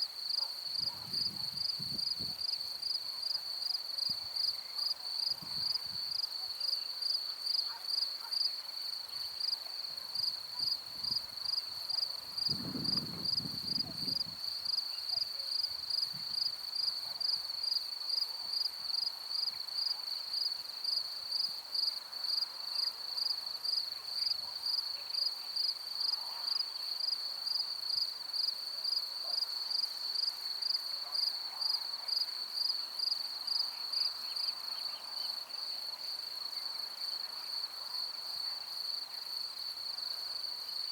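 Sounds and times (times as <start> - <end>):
cricket chirping: 0.2 - 40.9.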